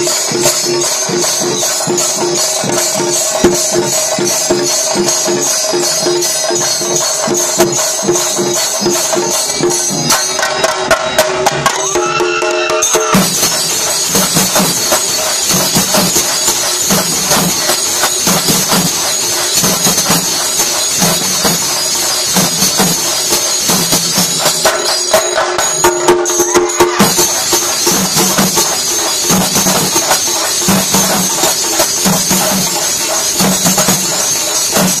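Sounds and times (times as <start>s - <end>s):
cymbals jingling: 0.0s - 35.0s
drums beating fast rhythm: 0.0s - 35.0s.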